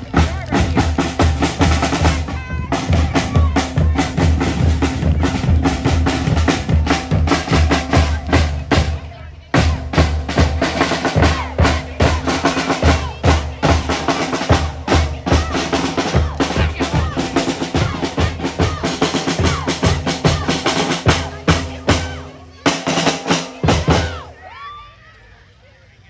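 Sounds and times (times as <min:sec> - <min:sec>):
drumline playing: 0:00.0 - 0:24.5.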